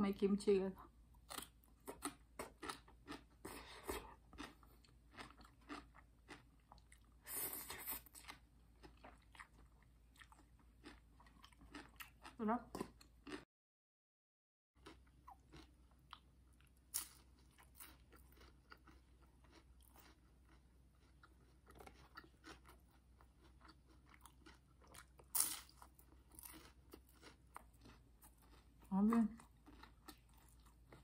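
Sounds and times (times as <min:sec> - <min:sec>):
chewing food crunches: 0:01.2 - 0:13.5, 0:14.8 - 0:31.0.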